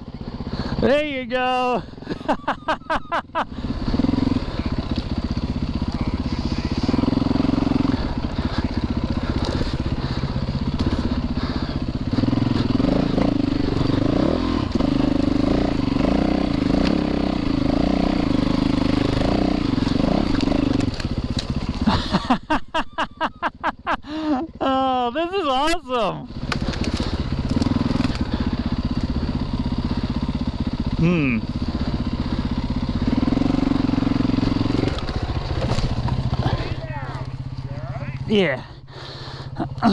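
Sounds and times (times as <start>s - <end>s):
dirt bike engine revving: 0.2s - 22.6s, 24.6s - 39.9s.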